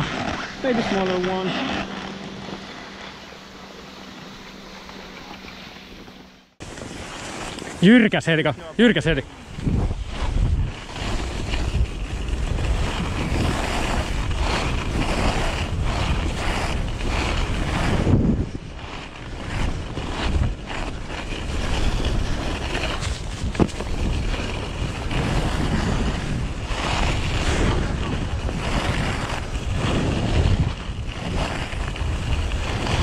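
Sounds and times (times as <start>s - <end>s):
snow blades scraping snow: 0.0s - 33.0s
wind buffeting microphone: 0.0s - 33.0s.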